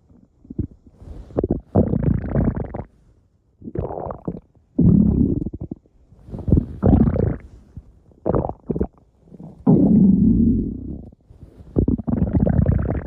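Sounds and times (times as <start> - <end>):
stomach growling: 0.0 - 2.9, 3.6 - 7.5, 8.2 - 11.2, 11.8 - 13.0.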